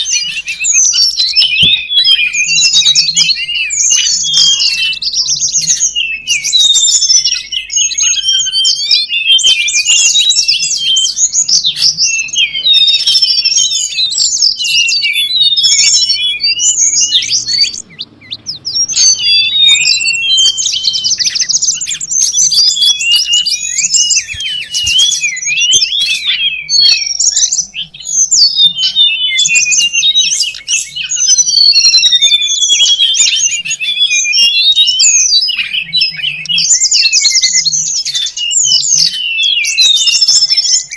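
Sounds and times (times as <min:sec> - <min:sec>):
bird chirps and trills: 0:00.0 - 0:40.9.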